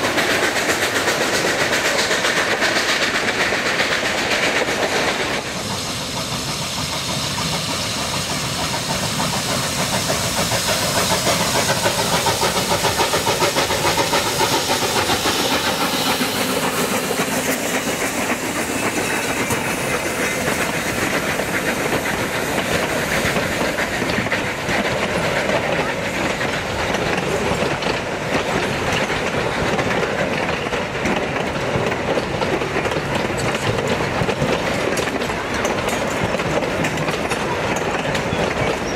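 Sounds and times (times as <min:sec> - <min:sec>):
hissing steam: 0:00.0 - 0:38.9
steam locomotive exhaust: 0:00.0 - 0:38.9
train wheels clicking over rail joints: 0:00.0 - 0:38.9.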